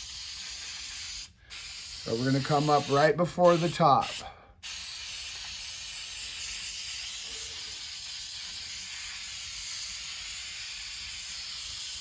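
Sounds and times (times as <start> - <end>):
aerosol can spraying hiss: 0.0 - 12.0.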